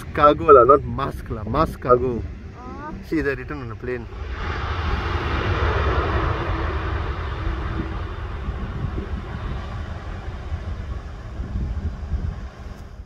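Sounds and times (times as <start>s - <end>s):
jet engines rumbling: 0.0s - 13.0s
wind on microphone: 0.0s - 13.0s.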